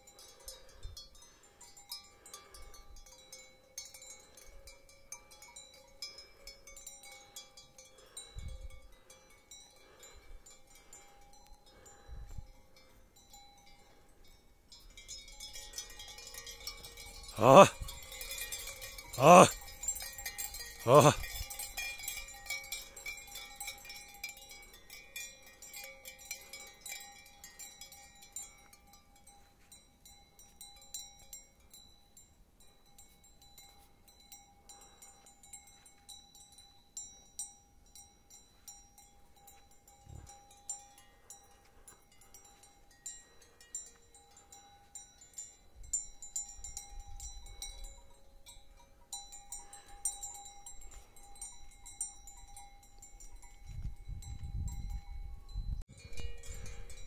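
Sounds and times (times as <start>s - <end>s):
yak bells ringing and jangling: 0.0s - 57.0s.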